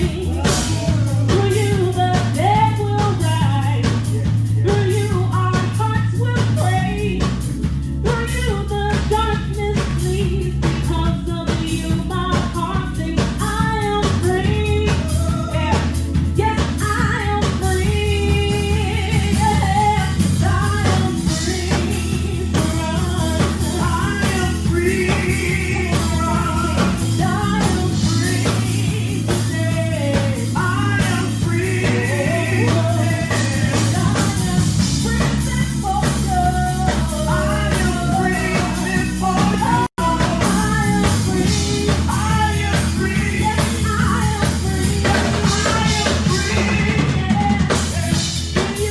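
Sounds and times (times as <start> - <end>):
gospel singing: 0.0 - 6.9, 11.6 - 48.9
drum kit beat: 0.0 - 48.9
held bass notes: 0.0 - 48.9.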